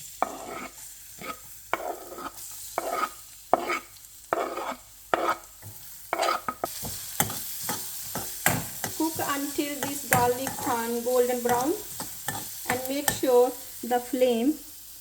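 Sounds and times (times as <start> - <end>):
utensil scraping a pan: 0.0 - 13.4
garlic sizzling in a pan: 0.0 - 15.0.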